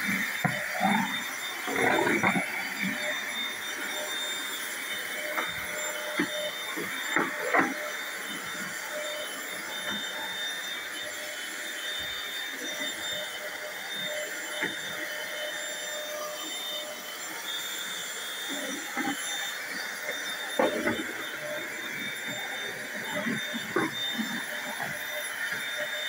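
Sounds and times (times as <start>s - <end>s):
vacuum cleaner motor whine: 0.0s - 26.0s.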